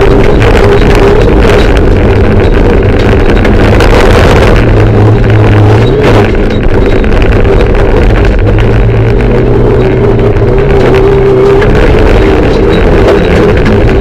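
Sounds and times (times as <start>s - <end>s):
car engine running hard: 0.0s - 14.0s
road and wind noise: 0.0s - 14.0s.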